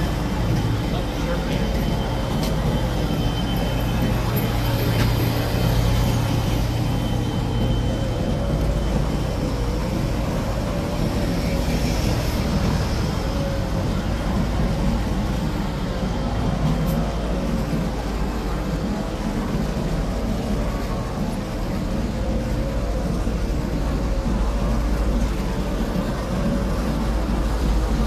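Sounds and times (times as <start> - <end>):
engine rumble: 0.0 - 28.0.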